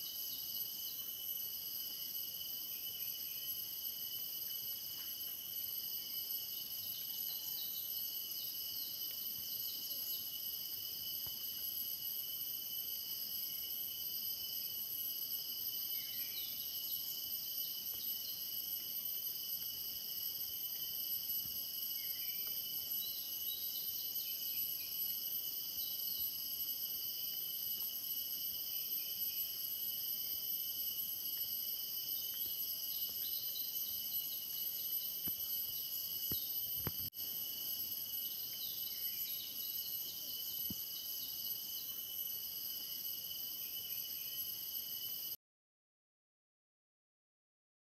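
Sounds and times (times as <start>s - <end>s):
insects trilling: 0.0s - 45.4s.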